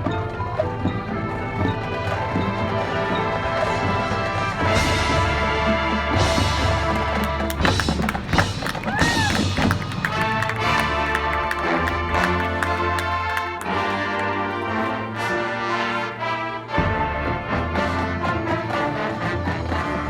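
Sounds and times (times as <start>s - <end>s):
brass chords: 0.0s - 20.0s
marching band playing: 0.0s - 20.0s.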